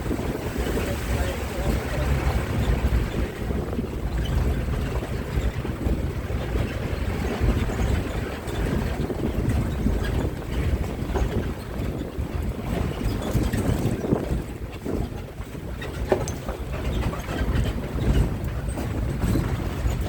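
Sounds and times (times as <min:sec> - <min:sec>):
bus engine rumble: 0:00.0 - 0:20.0
wind buffeting microphone: 0:00.0 - 0:20.0.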